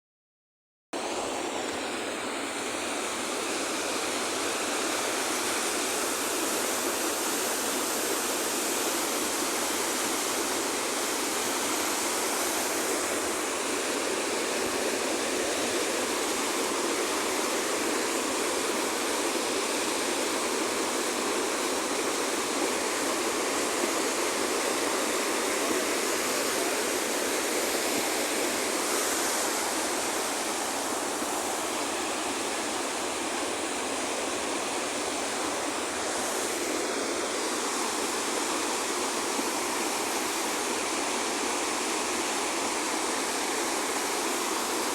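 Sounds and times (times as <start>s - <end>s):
flowing water rushing: 1.0s - 44.9s.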